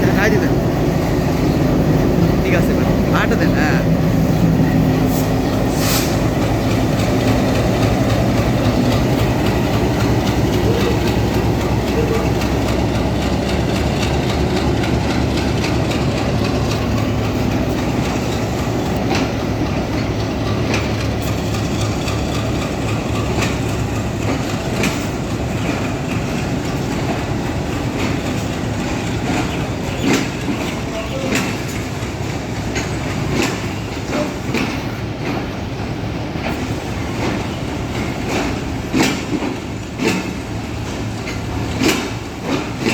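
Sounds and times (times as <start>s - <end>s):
train rumbling on track: 0.0s - 42.9s
wheels clicking over rail joints: 5.4s - 42.9s.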